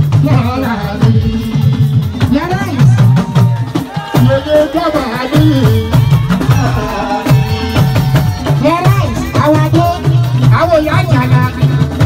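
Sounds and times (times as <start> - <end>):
person singing into a microphone: 0.0 - 3.2, 3.8 - 12.0
drums playing: 0.0 - 12.0.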